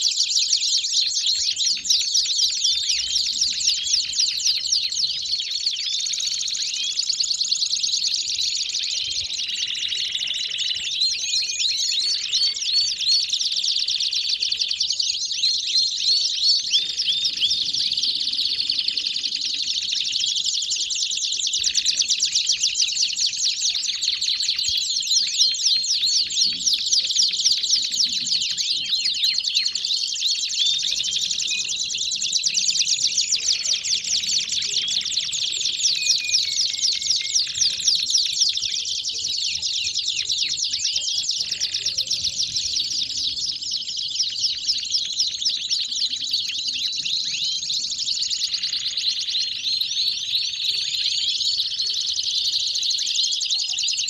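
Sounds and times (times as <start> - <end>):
canaries singing trills: 0.0 - 54.0.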